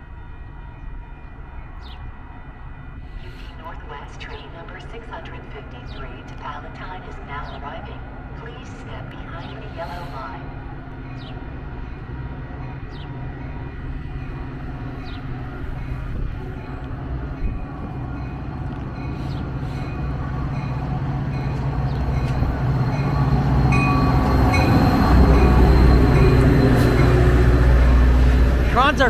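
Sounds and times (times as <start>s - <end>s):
diesel train rumbling: 0.0s - 29.0s.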